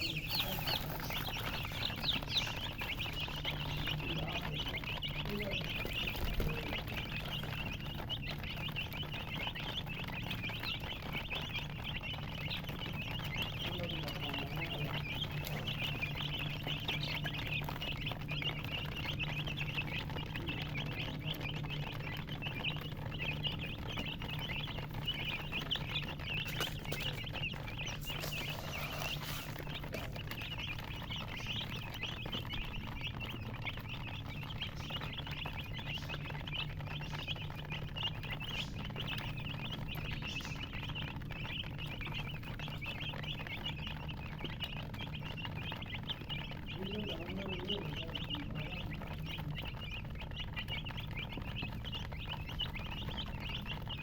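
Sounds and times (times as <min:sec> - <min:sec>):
baby chicks peeping: 0:00.0 - 0:54.0
steady low hum: 0:00.0 - 0:54.0.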